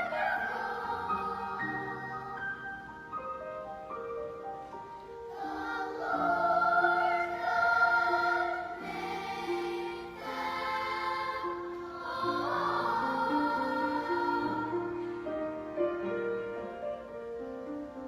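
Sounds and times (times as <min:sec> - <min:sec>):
choir singing long notes: 0:00.0 - 0:03.1, 0:05.3 - 0:16.8
gentle instrumental accompaniment: 0:00.0 - 0:18.0.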